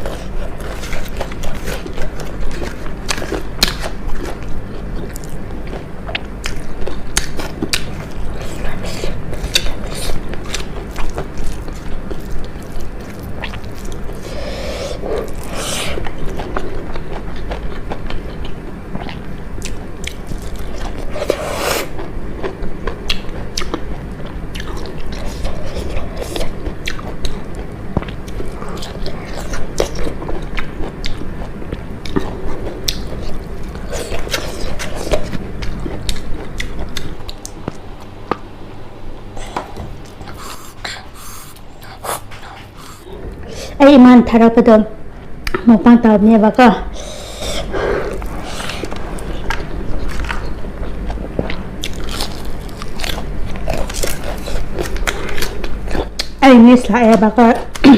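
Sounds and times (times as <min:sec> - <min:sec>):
chewing crunchy fried food: 0:00.0 - 0:38.5, 0:39.2 - 0:43.4, 0:46.9 - 0:56.4.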